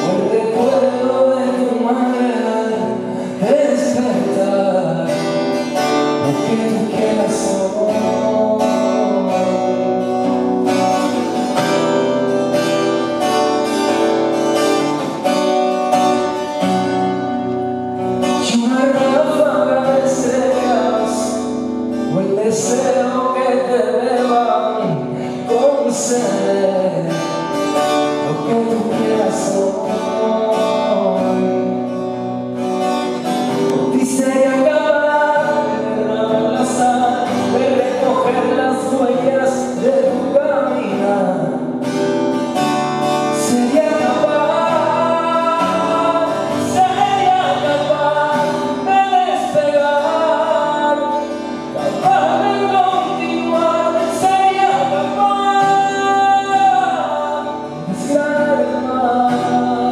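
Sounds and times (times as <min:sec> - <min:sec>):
man singing a slow ballad: 0:00.0 - 0:13.3, 0:18.2 - 0:32.1, 0:33.7 - 0:42.0, 0:43.1 - 0:59.9
acoustic guitar: 0:00.0 - 0:59.9.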